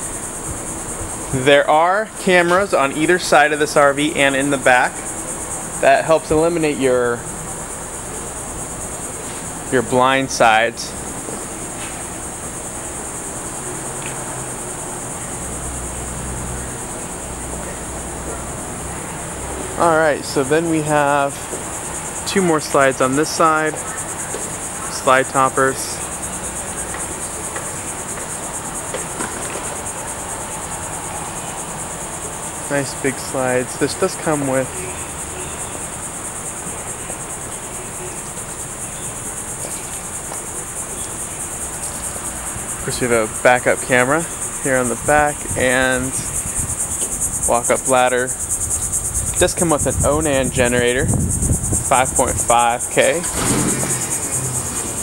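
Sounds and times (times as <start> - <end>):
insects chorus shrill drone: 0.0 - 55.0.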